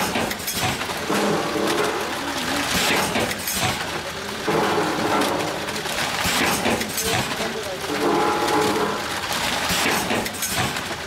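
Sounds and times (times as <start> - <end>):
packaging machine clattering: 0.0 - 11.0
packaging machine hiss: 0.0 - 11.0.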